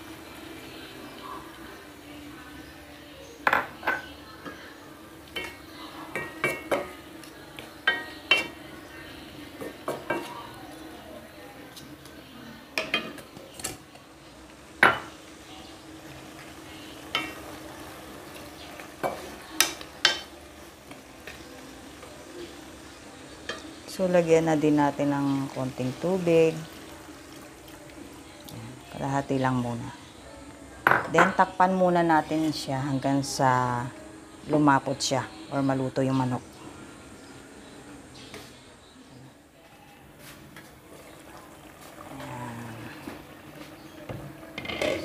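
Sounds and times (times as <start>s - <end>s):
quiet sizzle: 0.0s - 45.0s.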